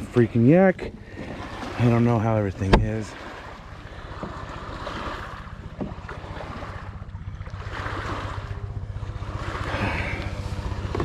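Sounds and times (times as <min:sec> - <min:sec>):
water swishing around kayak: 0:00.0 - 0:11.0.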